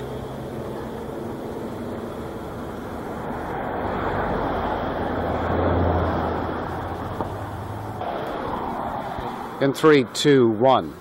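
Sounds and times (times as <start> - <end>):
vehicle passing: 0.0 - 10.6.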